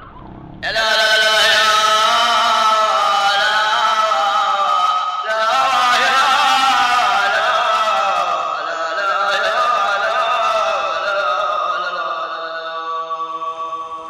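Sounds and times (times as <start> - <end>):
folk singing voices: 0.6 - 14.0.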